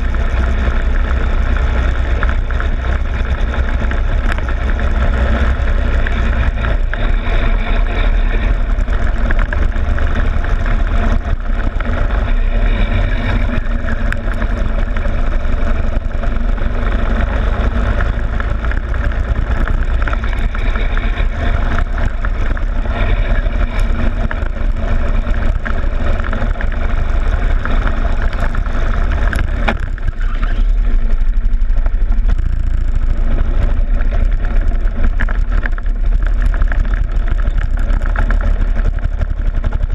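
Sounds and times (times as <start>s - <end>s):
go-kart engine running: 0.0s - 39.9s
wind noise: 0.0s - 39.9s.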